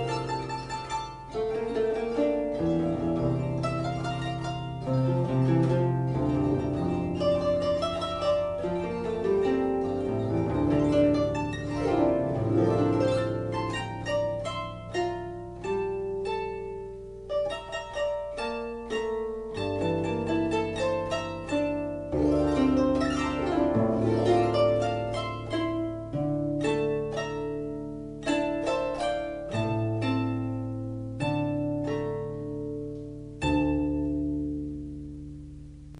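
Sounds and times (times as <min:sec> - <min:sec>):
harp music: 0:00.0 - 0:35.9.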